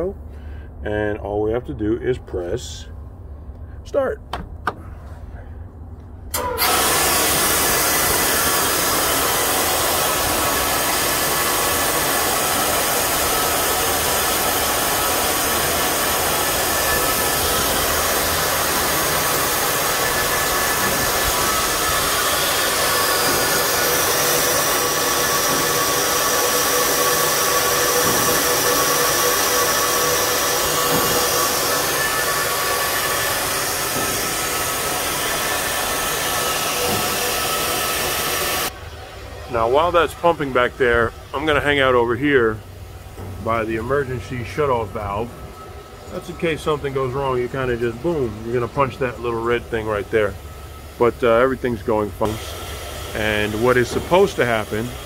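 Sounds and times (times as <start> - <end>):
gas hissing at high pressure: 6.3 - 38.8, 43.0 - 55.0.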